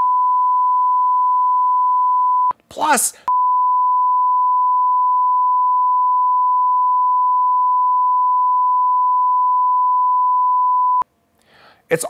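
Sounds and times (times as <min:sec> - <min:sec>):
censor beep tone: 0:00.0 - 0:02.5, 0:03.3 - 0:11.0.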